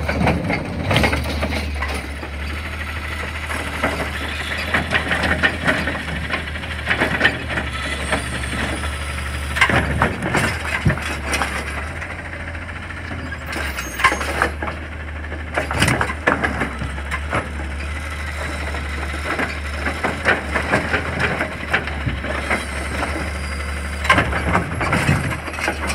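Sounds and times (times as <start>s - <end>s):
garbage truck running: 0.0s - 25.9s
trash carts clanking and rattling: 0.0s - 25.9s.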